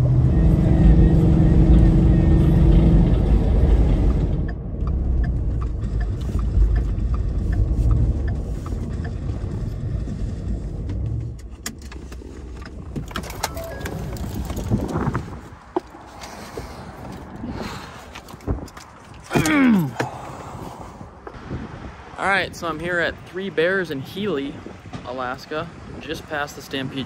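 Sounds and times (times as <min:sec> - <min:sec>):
road and engine rumble: 0:00.0 - 0:27.0.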